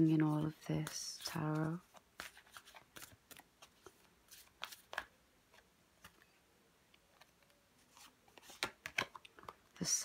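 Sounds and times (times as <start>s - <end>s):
cards being shuffled: 0.3s - 6.3s, 7.0s - 9.6s.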